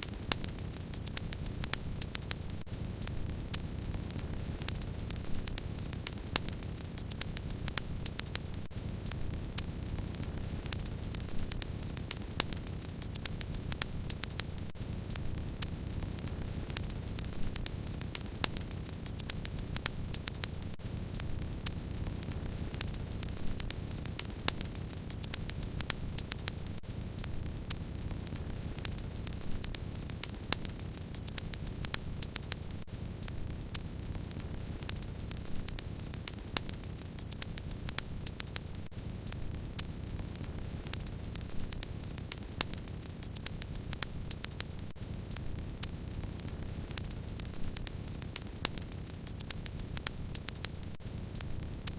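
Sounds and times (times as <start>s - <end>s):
steady low rumble: 0.0s - 51.9s
wood fire crackling and popping: 0.0s - 51.9s.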